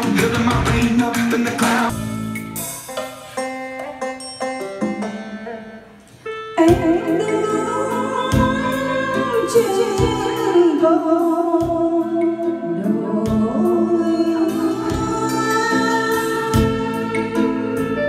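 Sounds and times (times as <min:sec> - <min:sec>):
karaoke song over loudspeakers: 0:00.0 - 0:18.0.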